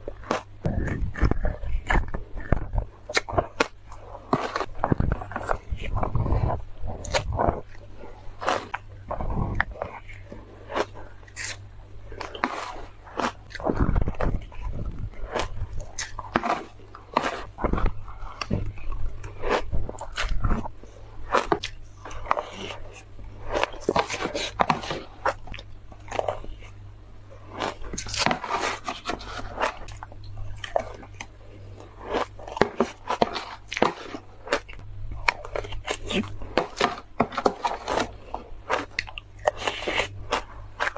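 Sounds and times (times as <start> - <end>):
crunching shaved ice: 0.0 - 40.9.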